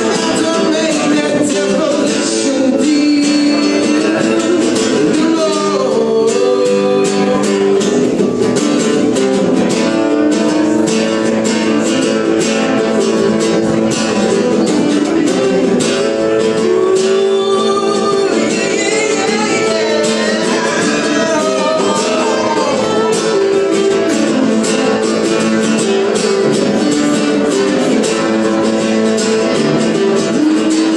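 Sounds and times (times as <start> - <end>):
acoustic guitars playing: 0.0 - 30.9
man singing: 0.0 - 30.9.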